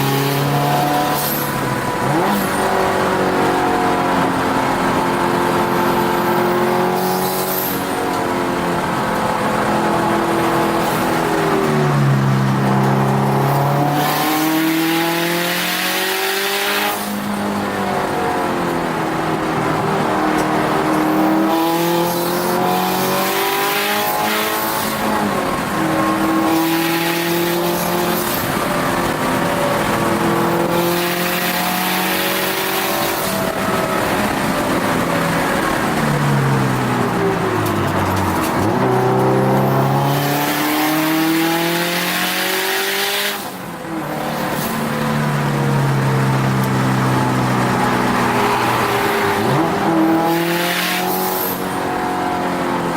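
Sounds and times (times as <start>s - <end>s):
car engine accelerating hard: 0.0s - 52.9s.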